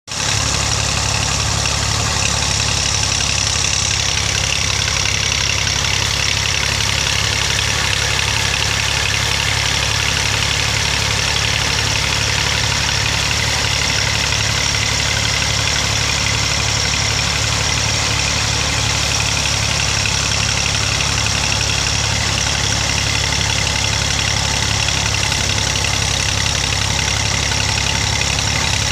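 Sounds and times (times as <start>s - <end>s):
tractor engine idling: 0.0s - 28.9s.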